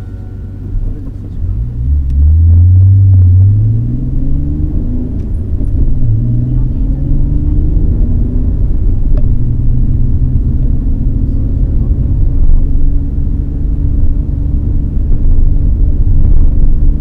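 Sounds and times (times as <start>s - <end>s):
car engine rumbling: 0.0s - 17.0s
road noise: 0.0s - 17.0s.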